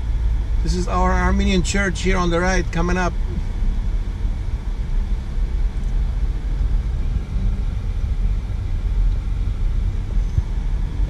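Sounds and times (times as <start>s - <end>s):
car engine rumble and road noise: 0.0s - 11.0s.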